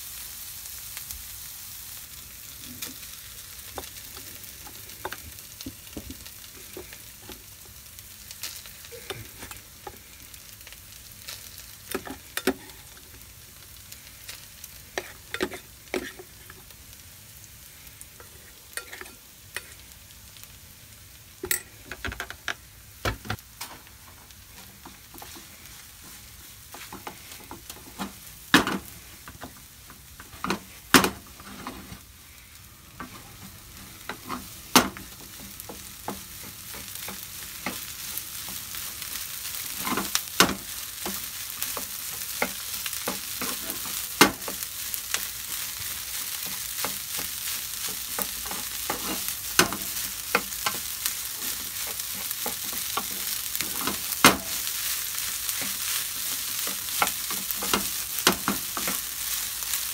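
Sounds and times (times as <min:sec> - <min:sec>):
frying sizzle: 0:00.0 - 0:59.9.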